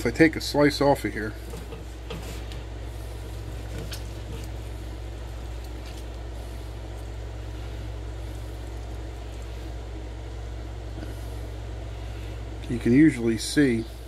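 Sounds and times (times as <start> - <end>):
low hum with light hiss: 0.0 - 14.0.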